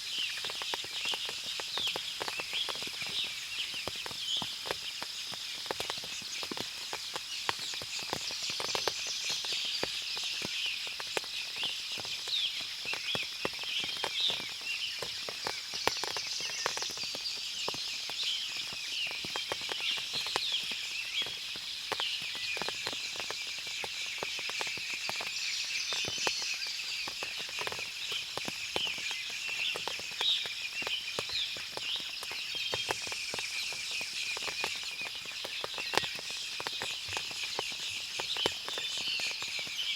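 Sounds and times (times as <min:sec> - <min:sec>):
birds chirping: 0:00.1 - 0:39.9
water drops pattering: 0:00.1 - 0:39.9.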